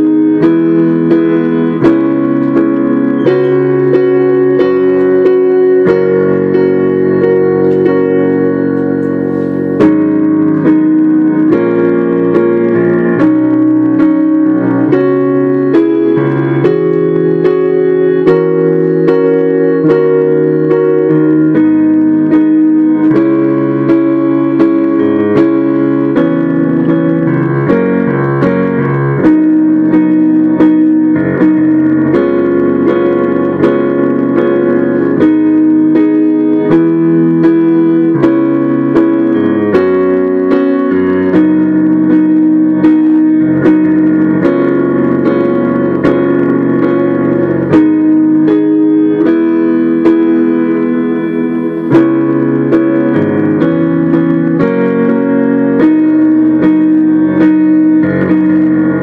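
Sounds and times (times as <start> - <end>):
upright piano playing: 0.0 - 59.0.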